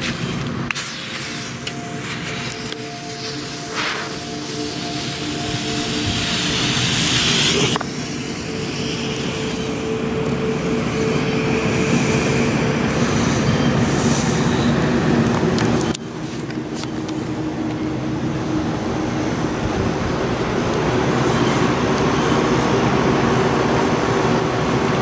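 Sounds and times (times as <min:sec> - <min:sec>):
ambient synth drone: 0:00.0 - 0:25.0.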